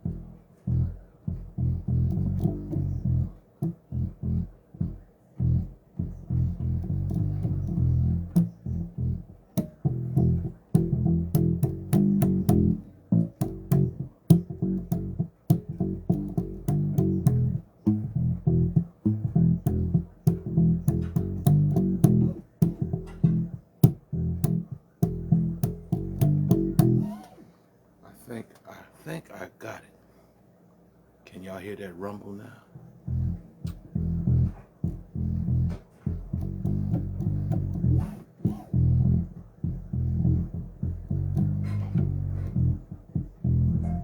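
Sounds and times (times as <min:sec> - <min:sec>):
electric bass guitar playing: 0:00.0 - 0:27.4, 0:32.8 - 0:44.0.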